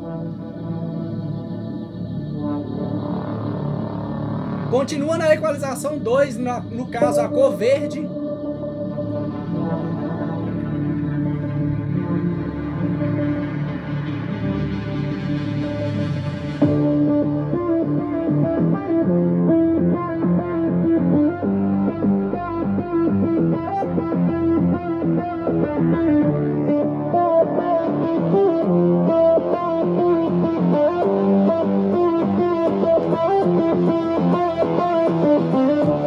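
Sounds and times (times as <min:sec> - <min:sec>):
guitar song over speaker: 0:00.0 - 0:36.0.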